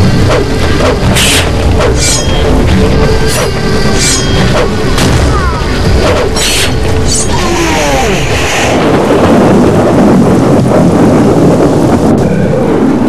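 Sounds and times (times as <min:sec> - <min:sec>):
loud continuous rumble: 0:00.0 - 0:13.0.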